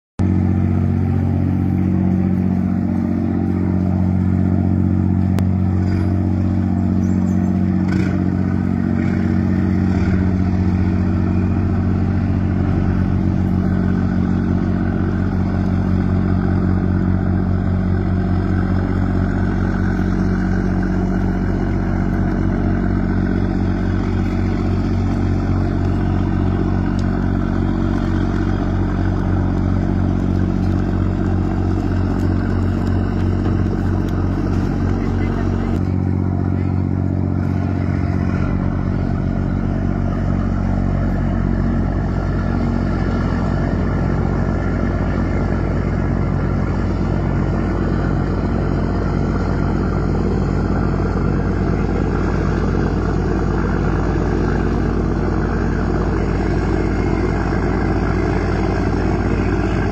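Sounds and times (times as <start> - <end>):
marine diesel engine roaring: 0.2 - 59.9.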